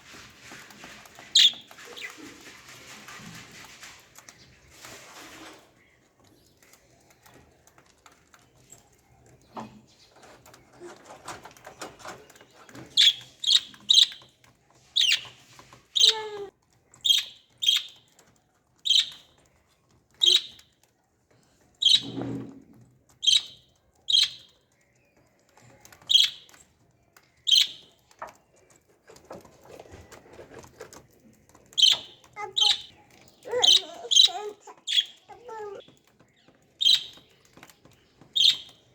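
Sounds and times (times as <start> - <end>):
lovebirds chirping: 1.1 - 2.5, 5.6 - 20.9, 23.1 - 29.2, 29.8 - 38.9.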